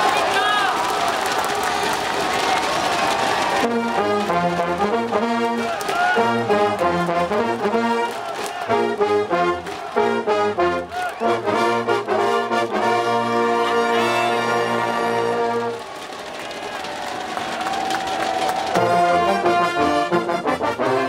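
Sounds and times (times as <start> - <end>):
crowd: 0.0 - 21.0
marching band brass playing: 2.5 - 21.0.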